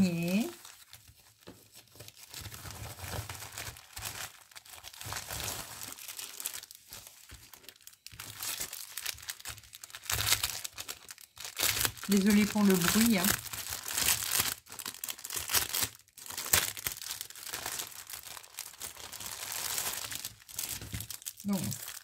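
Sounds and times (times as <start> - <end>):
packaging crinkling: 0.0 - 22.0.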